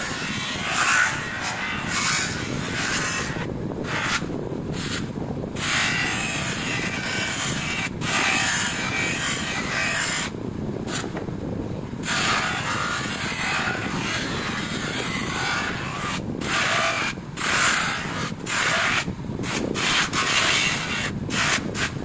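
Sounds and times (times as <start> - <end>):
metal rubbing on polishing wheel: 0.0 - 10.3, 12.0 - 22.0.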